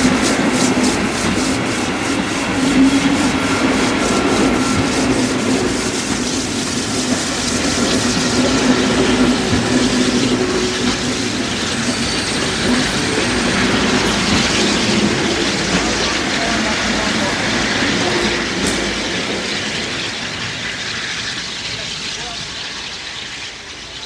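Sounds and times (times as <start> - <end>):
train running along track: 0.0 - 24.0.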